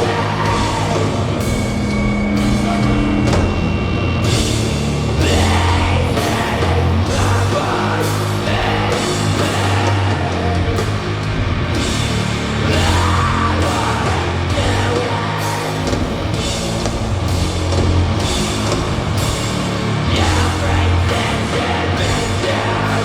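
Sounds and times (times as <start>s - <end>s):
deep bass notes: 0.0s - 23.0s
distorted guitars: 0.0s - 23.0s
drums: 0.0s - 23.0s.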